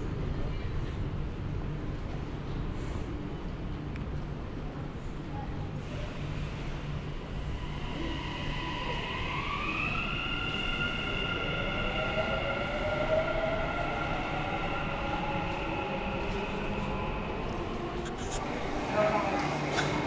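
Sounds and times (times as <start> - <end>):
low train rumble: 0.0 - 20.0.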